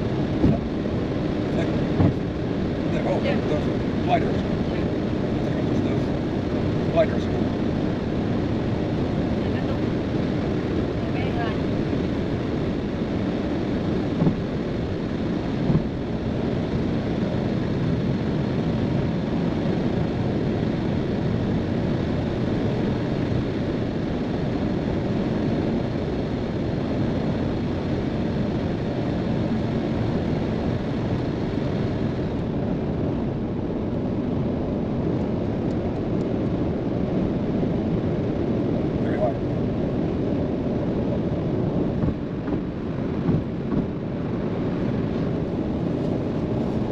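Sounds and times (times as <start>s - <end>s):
car road and engine noise: 0.0s - 46.9s.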